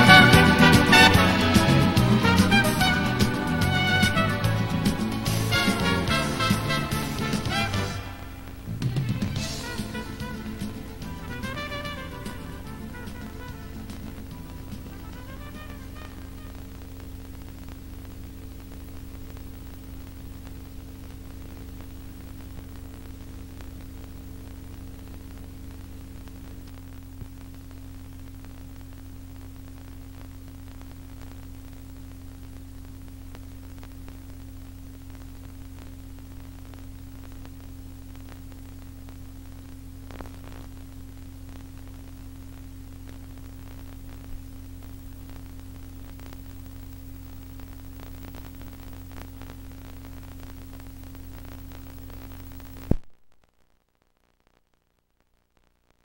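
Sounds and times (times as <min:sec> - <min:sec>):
soundtrack hiss: 0:00.0 - 0:53.1
electrical mains hum: 0:00.0 - 0:54.5.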